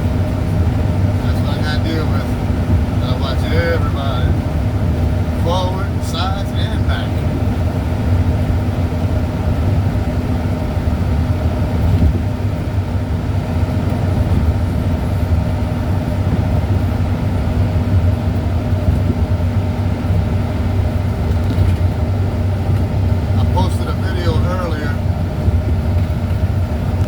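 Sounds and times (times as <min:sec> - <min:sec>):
vehicle engine and road drone: 0:00.0 - 0:27.0.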